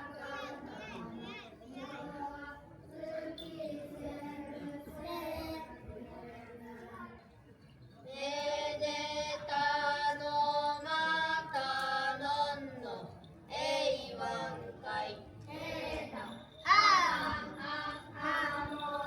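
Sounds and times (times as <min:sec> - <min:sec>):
voices singing slow song: 0:00.0 - 0:06.2, 0:08.1 - 0:19.0.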